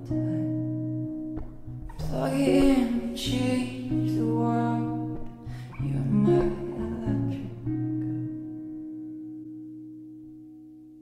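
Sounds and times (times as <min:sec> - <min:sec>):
guitar-led song: 0:00.0 - 0:11.0.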